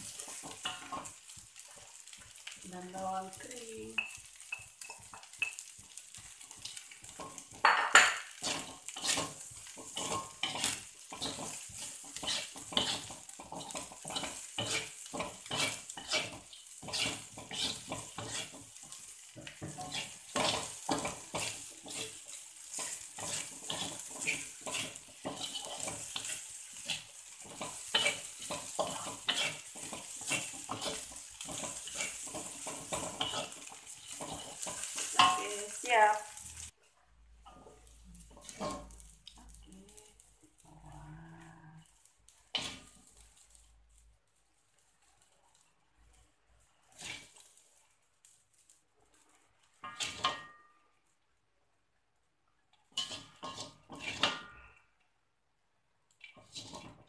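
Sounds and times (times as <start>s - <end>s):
wooden spatula scraping metal wok: 0.0s - 36.8s, 37.4s - 50.7s, 52.8s - 54.8s, 56.1s - 57.0s
frying sizzle: 0.0s - 57.0s.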